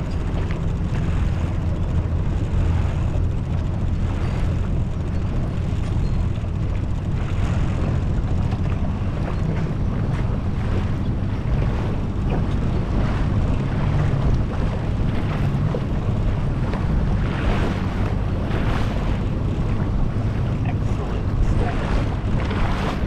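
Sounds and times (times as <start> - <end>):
motorboat engine running: 0.0 - 23.0
water washing past hull: 0.0 - 23.0
wind buffeting microphone: 0.0 - 23.0.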